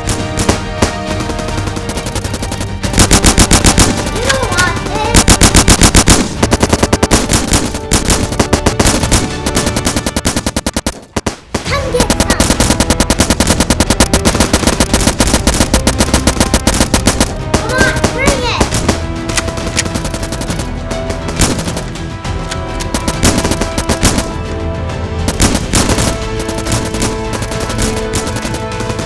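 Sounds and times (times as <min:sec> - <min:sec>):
rapid automatic gunfire: 0:00.0 - 0:24.6, 0:25.2 - 0:29.0
background music: 0:00.0 - 0:29.0.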